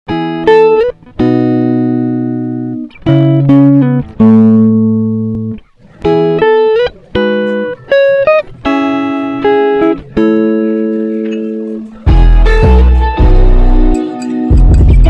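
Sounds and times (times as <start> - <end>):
plucked guitar notes: 0.1 - 15.0.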